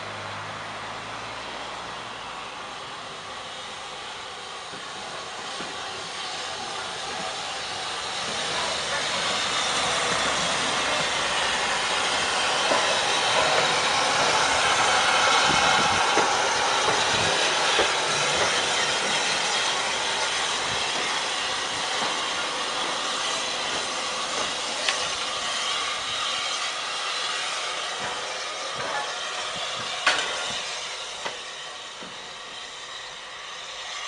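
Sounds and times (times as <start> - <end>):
steam locomotive hissing: 0.0 - 34.0.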